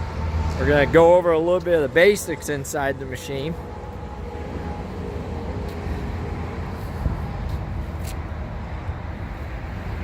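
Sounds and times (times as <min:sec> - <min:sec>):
low engine rumble of vehicles: 0:00.0 - 0:10.0.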